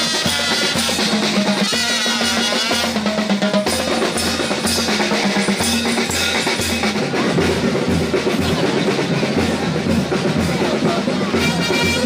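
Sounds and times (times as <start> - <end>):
drum-led music: 0.0 - 12.0
steady bass drum beat: 0.0 - 12.0.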